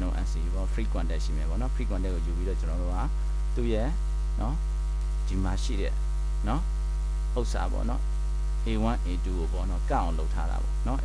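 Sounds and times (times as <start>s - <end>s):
person speaking: 0.0s - 4.6s, 5.2s - 6.7s, 7.3s - 8.0s, 8.6s - 11.0s
electrical mains hum: 0.0s - 11.0s.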